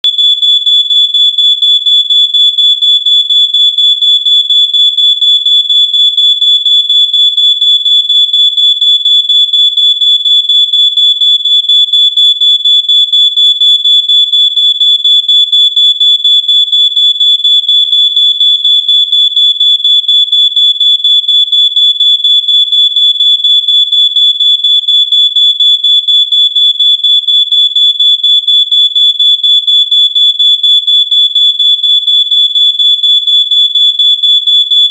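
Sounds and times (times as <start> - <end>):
smoke alarm beeping: 0.0 - 34.9.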